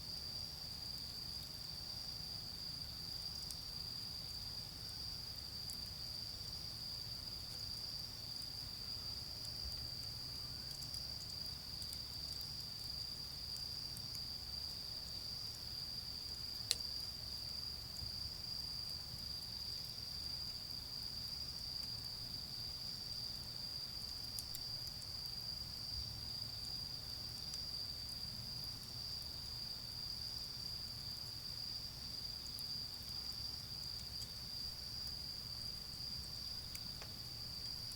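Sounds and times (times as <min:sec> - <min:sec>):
insects chorus: 0:00.0 - 0:37.9.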